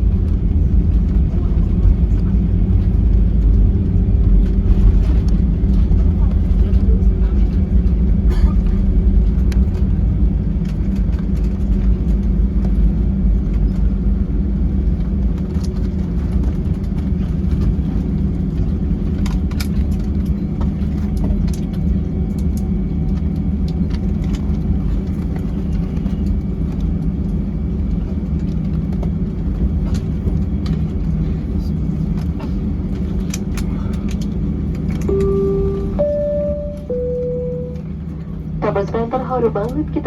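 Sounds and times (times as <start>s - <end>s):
aircraft engine and airflow rumble: 0.0s - 40.0s.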